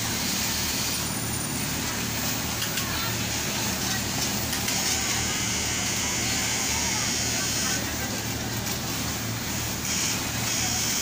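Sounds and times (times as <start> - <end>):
machine whirring hiss: 0.0 - 11.0.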